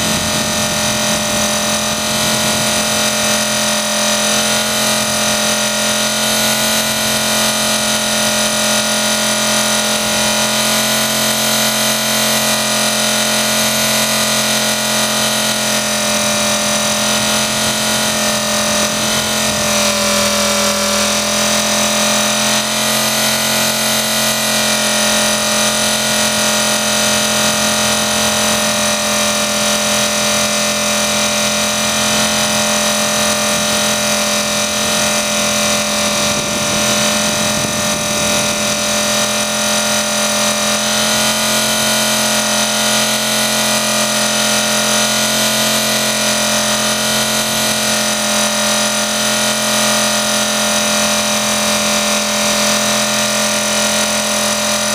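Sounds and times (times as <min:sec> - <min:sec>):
model helicopter motor whine: 0:00.0 - 0:54.9.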